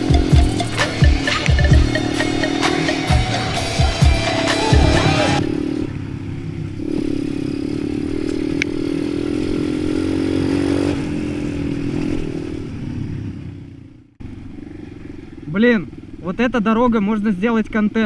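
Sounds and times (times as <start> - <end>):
motorbike engine running: 0.0 - 16.4.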